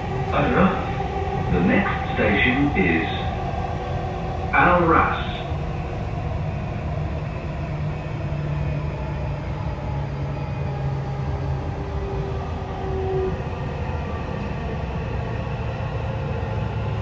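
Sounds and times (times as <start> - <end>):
train rumbling through tunnel: 0.0 - 17.0.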